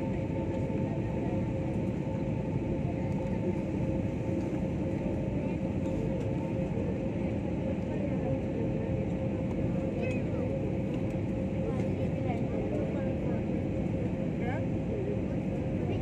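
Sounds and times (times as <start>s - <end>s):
constant cabin hum: 0.0s - 16.0s.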